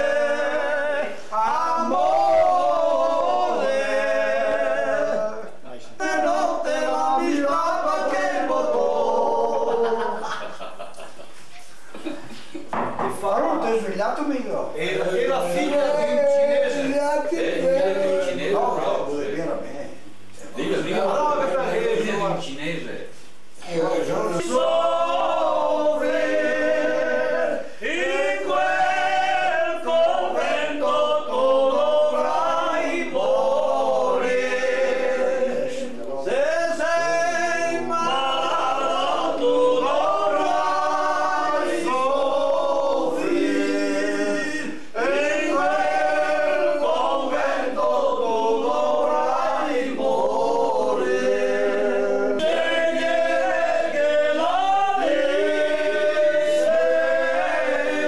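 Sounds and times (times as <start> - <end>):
men singing unaccompanied: 0.0 - 10.4, 14.8 - 19.4, 23.7 - 58.0.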